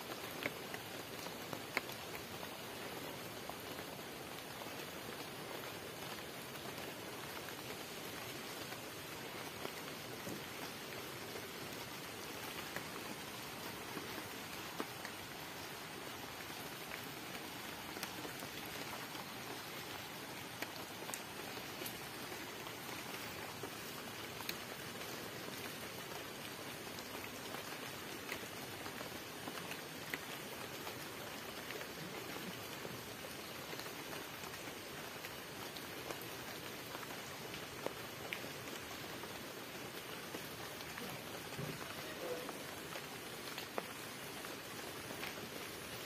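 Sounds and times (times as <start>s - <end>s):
rain on leaves and wet ground: 0.0s - 46.0s.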